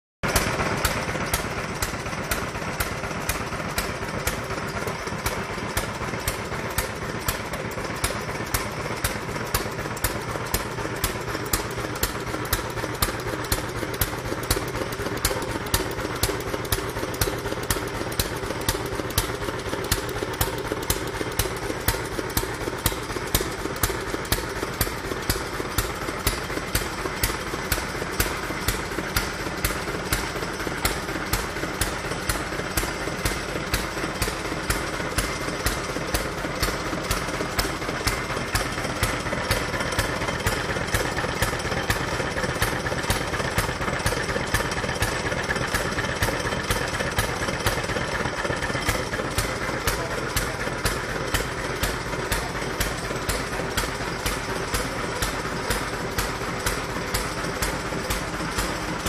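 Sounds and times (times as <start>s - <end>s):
stationary engine running: 0.2s - 59.0s.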